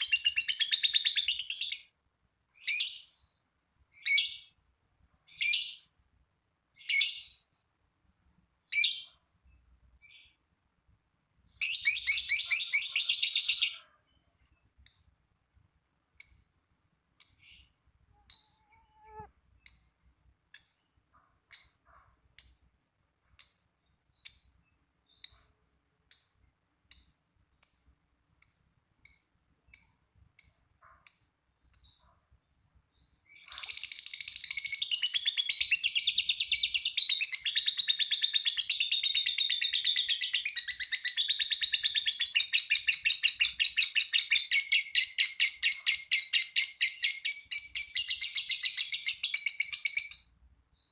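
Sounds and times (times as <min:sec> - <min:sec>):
lovebird chirping and trilling: 0:00.0 - 0:02.0, 0:02.6 - 0:04.6, 0:05.3 - 0:05.9, 0:06.8 - 0:07.6, 0:08.7 - 0:09.2, 0:10.0 - 0:10.4, 0:11.5 - 0:15.1, 0:16.2 - 0:16.5, 0:17.2 - 0:20.9, 0:21.5 - 0:22.7, 0:23.4 - 0:32.1, 0:33.0 - 0:50.9.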